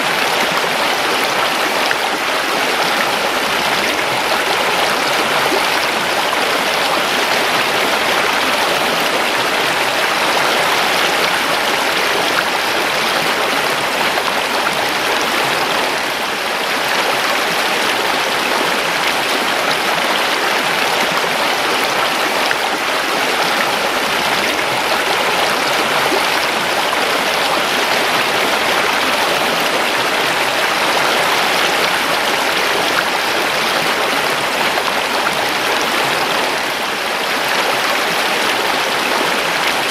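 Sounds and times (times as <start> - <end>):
creek water rushing over stones: 0.0 - 39.9.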